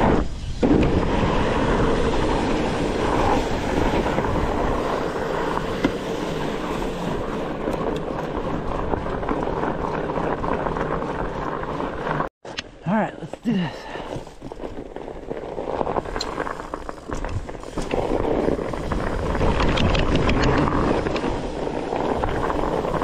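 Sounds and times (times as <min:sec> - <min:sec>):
wind on microphone: 0:00.0 - 0:12.0, 0:14.4 - 0:23.0
bike tyres rolling on icy snow: 0:00.0 - 0:23.0.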